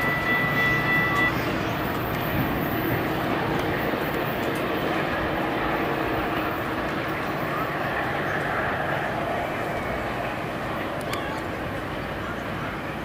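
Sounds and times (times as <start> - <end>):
steady high tone: 0.0 - 11.4
diesel train pulling away: 0.0 - 13.0.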